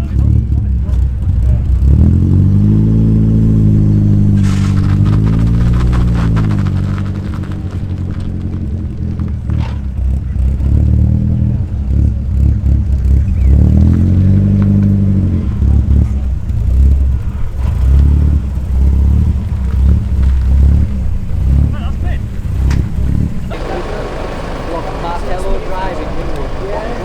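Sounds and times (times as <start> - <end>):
car engines rumbling: 0.0 - 27.0.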